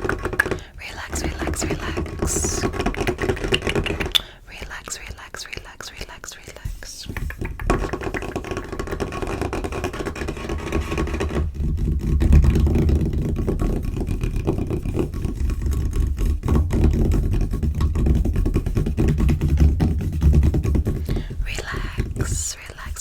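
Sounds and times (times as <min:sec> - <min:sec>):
hands tapping and scratching on table: 0:00.0 - 0:23.0.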